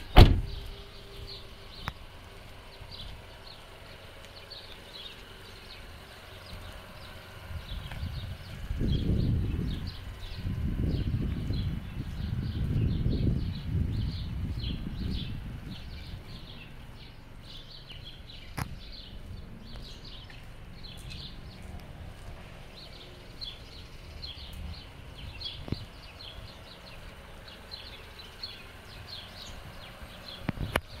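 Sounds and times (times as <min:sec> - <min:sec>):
low outdoor rumble: 0:00.0 - 0:31.0
small birds chirping: 0:00.0 - 0:31.0.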